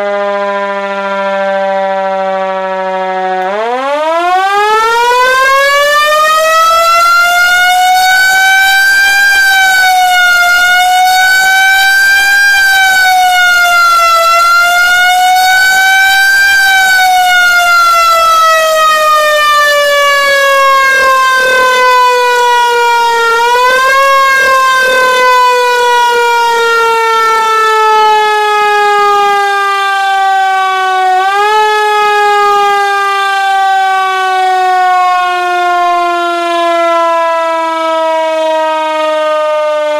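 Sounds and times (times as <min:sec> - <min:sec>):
electromechanical siren wailing: 0:00.0 - 0:39.9.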